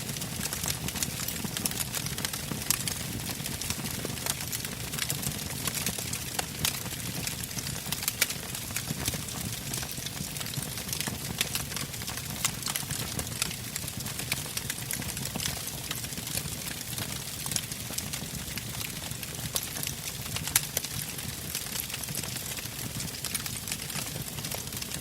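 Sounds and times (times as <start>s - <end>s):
low rumble of flames: 0.0s - 24.9s
campfire crackling and popping: 0.0s - 25.0s.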